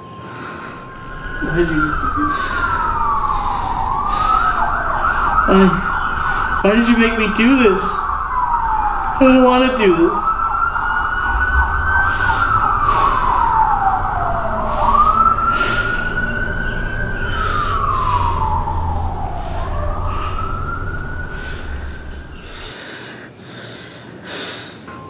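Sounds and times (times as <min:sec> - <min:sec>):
emergency vehicle siren wailing: 0:00.6 - 0:22.7
low rumble: 0:00.7 - 0:22.7.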